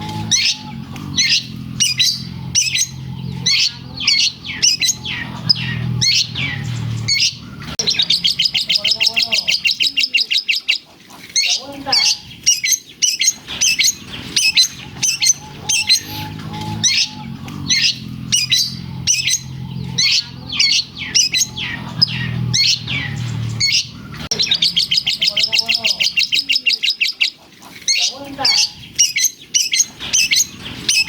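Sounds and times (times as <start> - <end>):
fast rattling bird trill: 0.0 - 31.0.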